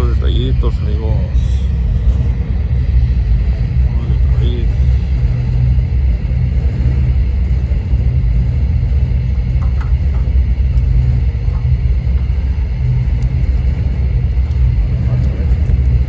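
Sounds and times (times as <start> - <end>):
roofing torch burning: 0.0 - 16.0.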